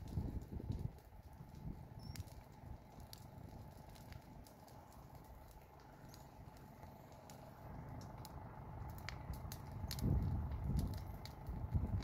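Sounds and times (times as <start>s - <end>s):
grass crackling in fire: 0.0s - 12.0s
low fire rumble: 0.0s - 12.0s.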